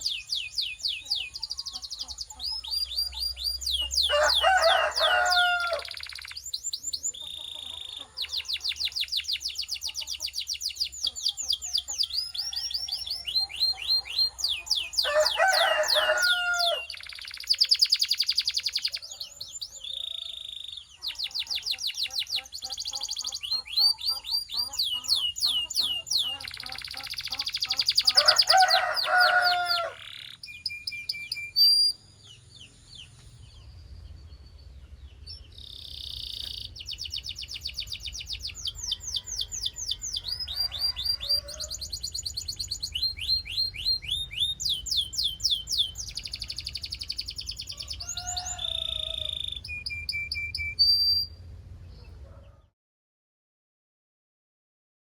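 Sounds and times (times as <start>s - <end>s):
canary singing trills: 0.0s - 52.7s.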